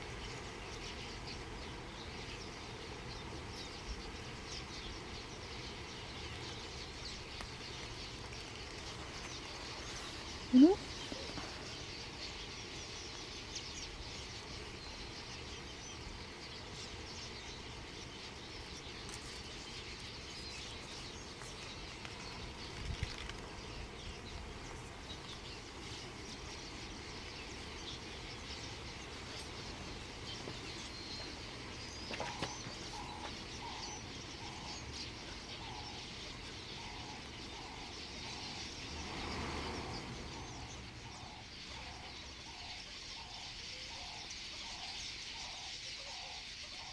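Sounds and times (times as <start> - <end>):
flock of birds chattering: 0.0 - 46.9.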